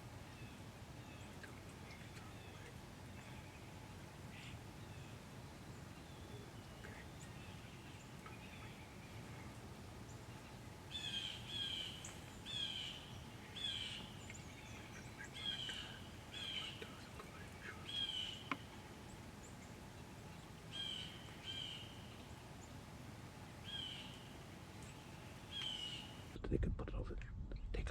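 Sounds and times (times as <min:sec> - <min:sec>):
bird chirping: 0:00.0 - 0:26.4
low background hiss: 0:00.0 - 0:27.9.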